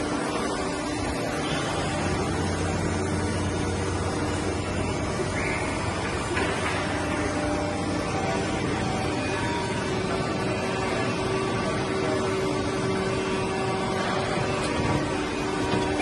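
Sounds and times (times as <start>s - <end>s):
hydraulic pump motor hum: 0.0s - 16.0s
steady tones: 0.0s - 16.0s.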